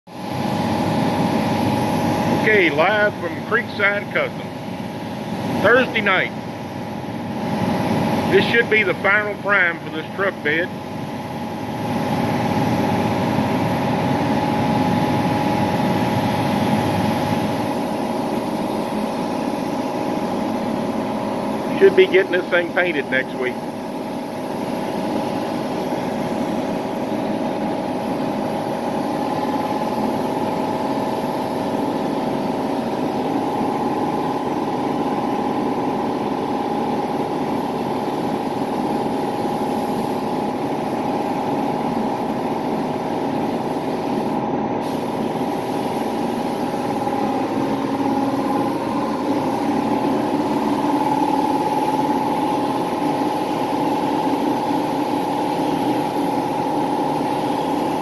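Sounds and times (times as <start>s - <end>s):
air compressor droning: 0.1s - 58.0s
spray gun hissing: 0.3s - 35.3s, 36.0s - 58.0s.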